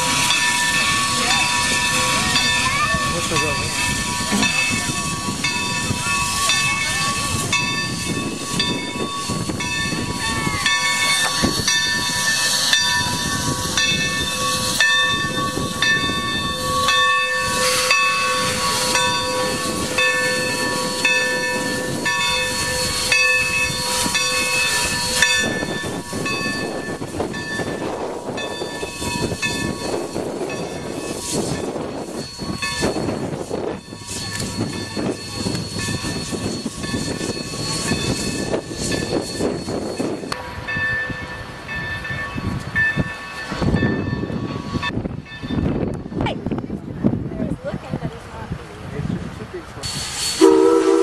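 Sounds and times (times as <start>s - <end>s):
steam locomotive hissing: 0.0s - 51.0s.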